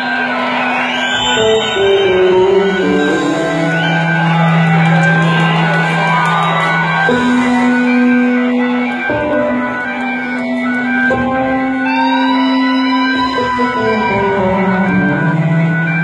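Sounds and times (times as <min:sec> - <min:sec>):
crowd whistles and whoops: 0:00.0 - 0:09.0, 0:11.8 - 0:16.0
live rock band music: 0:00.0 - 0:16.0.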